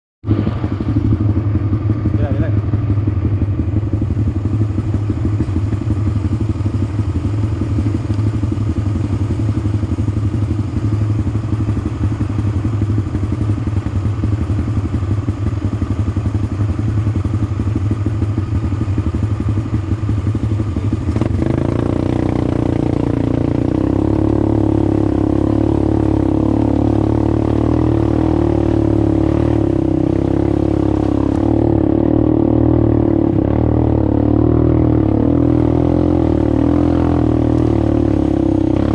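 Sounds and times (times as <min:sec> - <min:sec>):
atv engine running: 0:00.2 - 0:38.9.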